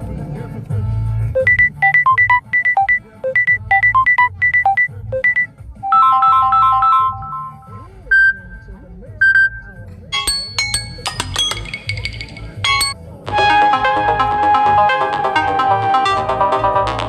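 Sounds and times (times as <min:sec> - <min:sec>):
phone ringtone melody: 0:01.4 - 0:17.0.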